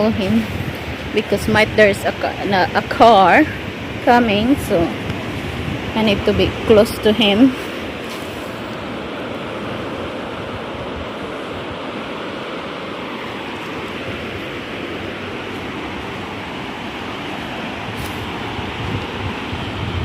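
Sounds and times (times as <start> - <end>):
ocean surf rushing: 0.0 - 20.0.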